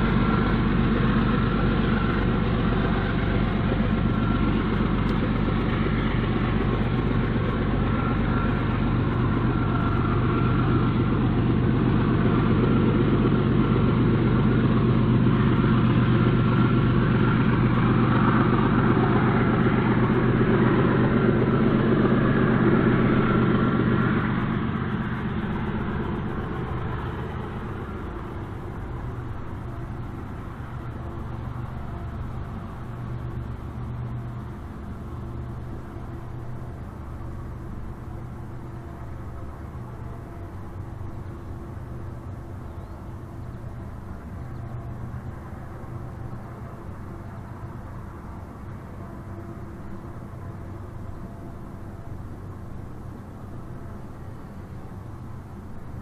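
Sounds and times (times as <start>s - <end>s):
diesel locomotive engines running: 0.0s - 56.0s.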